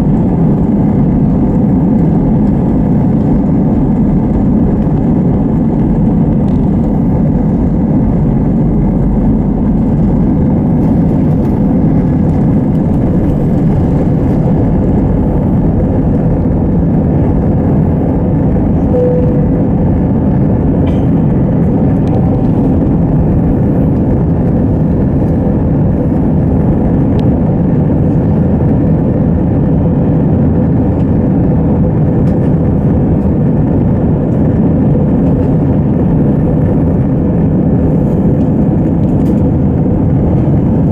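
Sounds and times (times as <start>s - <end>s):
airliner engine rumble: 0.0s - 40.9s
faint constant hum: 0.0s - 40.9s.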